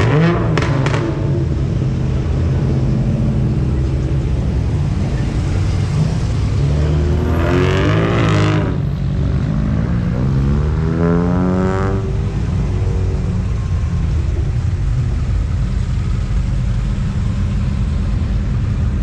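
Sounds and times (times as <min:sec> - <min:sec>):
car engines rumbling: 0:00.0 - 0:19.0
cars revving up: 0:00.0 - 0:19.0.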